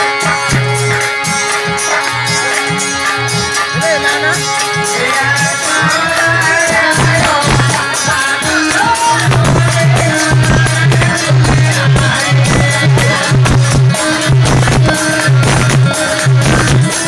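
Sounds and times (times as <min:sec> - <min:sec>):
folk dance song: 0:00.0 - 0:17.0
steady drum beat: 0:00.0 - 0:17.0.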